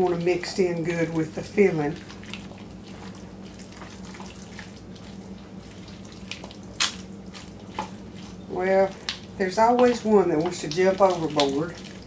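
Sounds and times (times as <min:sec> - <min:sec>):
spatula stirring wet filling: 0:00.0 - 0:12.0.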